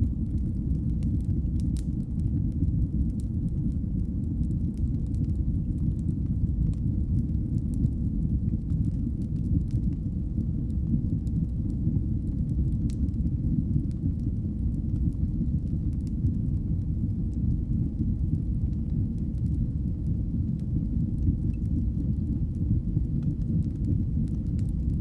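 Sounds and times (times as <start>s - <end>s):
faint fire crackles: 0.0s - 25.0s
low rumble of flames: 0.0s - 25.0s.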